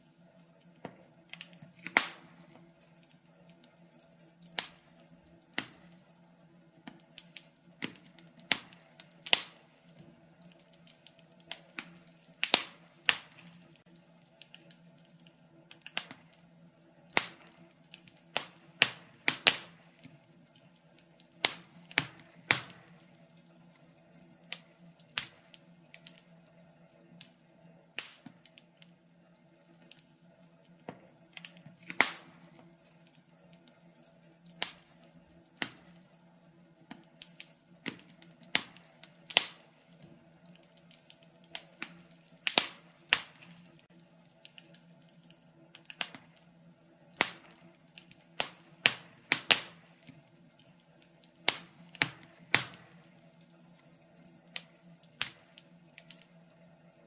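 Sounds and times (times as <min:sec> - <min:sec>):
wood fire popping and snapping: 0:00.0 - 0:57.0.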